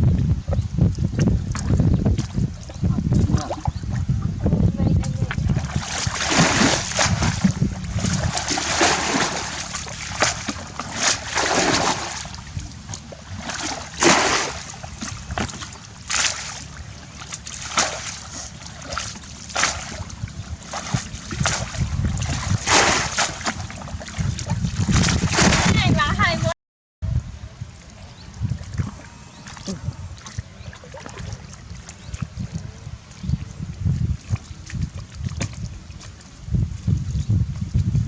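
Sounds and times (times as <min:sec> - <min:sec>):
water splashing and sloshing: 0:00.0 - 0:26.5, 0:27.5 - 0:38.0
steady low rumble: 0:00.0 - 0:38.0.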